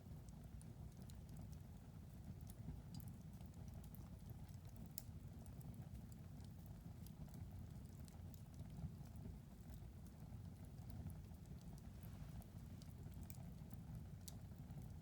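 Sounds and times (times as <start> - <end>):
low rumble of burning: 0.0 - 15.0
wood fire crackling: 0.1 - 15.0.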